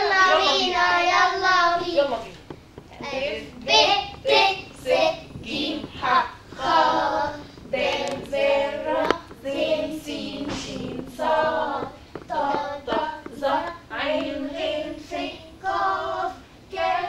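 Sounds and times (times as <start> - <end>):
children singing: 0.0 - 1.8, 3.2 - 17.0
woman singing: 3.0 - 17.0.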